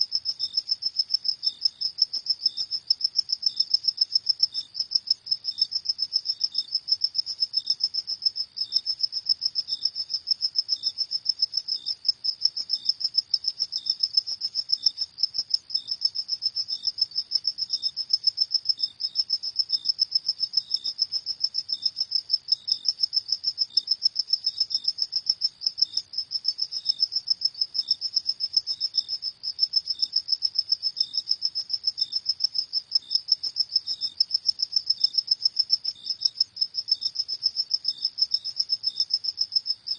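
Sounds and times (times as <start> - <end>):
crickets chirping rapidly: 0.0 - 39.9
lower cricket chirping slowly: 0.0 - 39.9.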